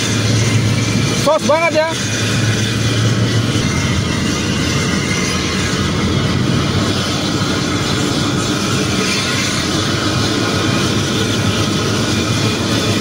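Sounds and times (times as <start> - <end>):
bus engine droning under load: 0.0 - 13.0
road noise: 0.0 - 13.0.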